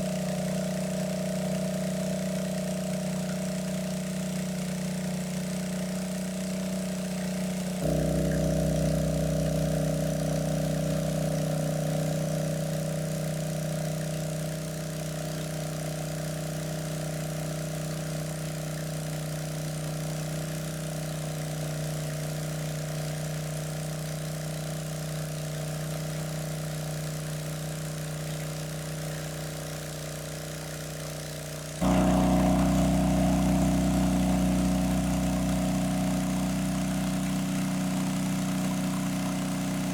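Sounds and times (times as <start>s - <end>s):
small engine idling: 0.0s - 39.9s.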